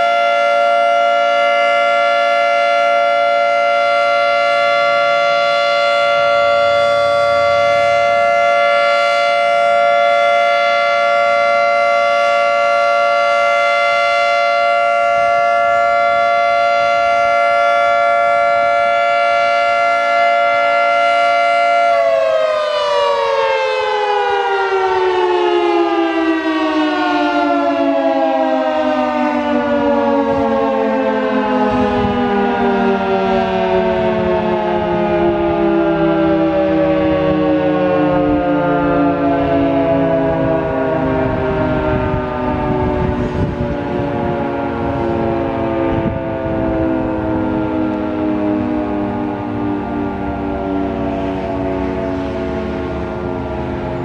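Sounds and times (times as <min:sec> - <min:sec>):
three-tone siren winding down: 0:00.0 - 0:54.0.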